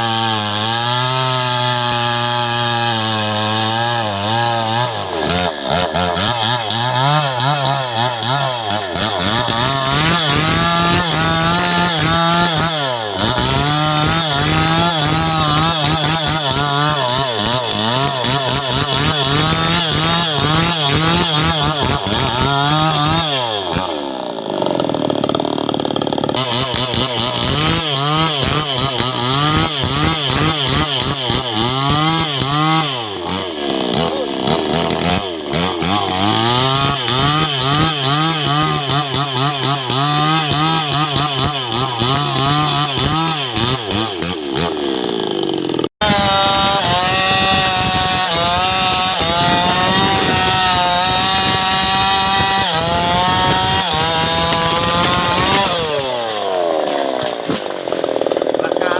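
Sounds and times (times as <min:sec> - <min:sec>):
chainsaw revving while cutting wood: 0:00.0 - 0:58.9.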